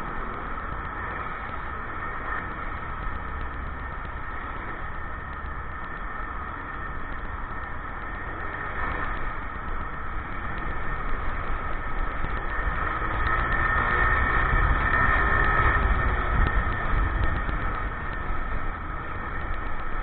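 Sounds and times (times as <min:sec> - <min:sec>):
motorcycle engine rumble: 0:00.0 - 0:20.0
road noise: 0:00.0 - 0:20.0.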